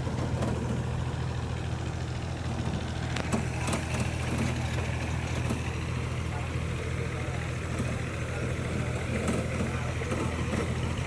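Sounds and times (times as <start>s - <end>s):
road train engine humming: 0.0s - 11.0s.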